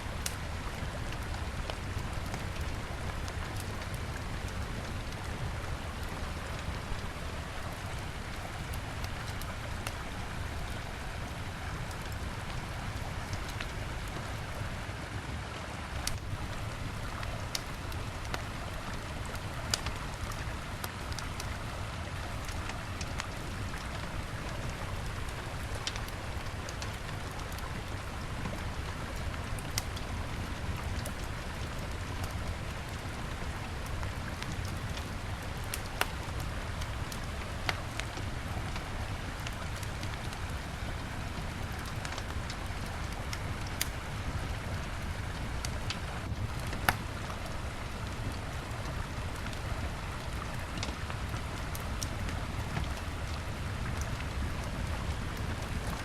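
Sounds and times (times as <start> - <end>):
wood fire crackling and popping: 0.1 - 14.8, 15.9 - 56.0.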